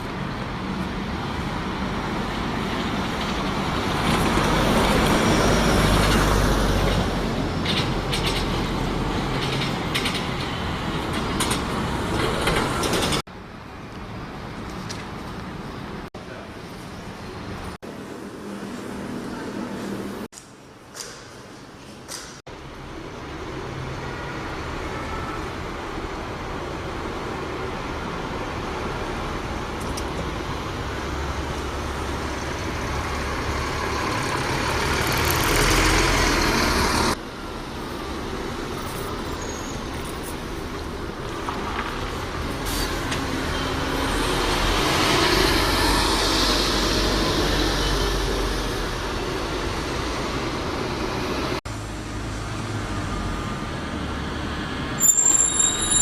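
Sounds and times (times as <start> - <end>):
diesel buses passing: 0.0 - 56.0.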